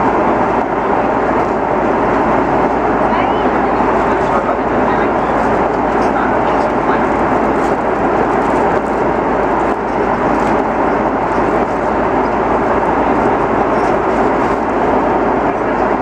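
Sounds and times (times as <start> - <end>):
jet engines and rushing air: 0.0 - 16.0.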